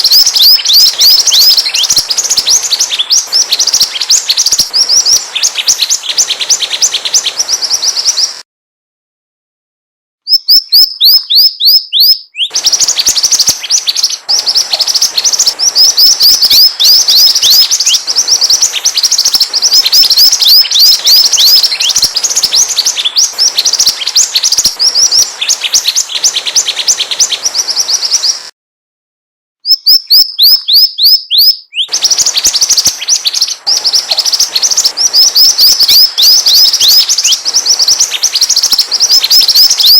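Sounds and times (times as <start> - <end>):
songbird singing: 0.0 - 8.4, 10.3 - 28.5, 29.6 - 39.9.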